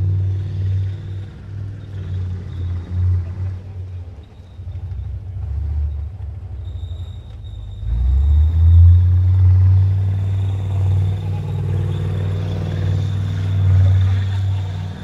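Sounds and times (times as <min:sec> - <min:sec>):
tank diesel engine rumbling: 0:00.0 - 0:15.0.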